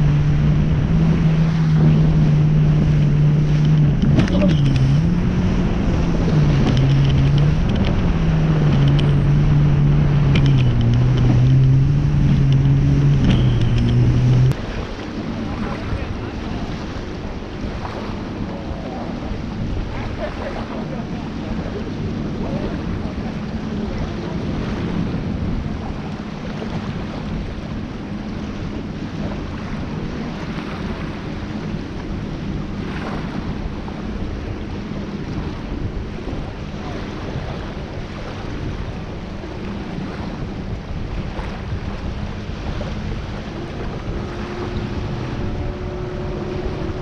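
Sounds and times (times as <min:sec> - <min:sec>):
small waves lapping: 0:00.0 - 0:47.0
wind buffeting microphone: 0:00.0 - 0:47.0.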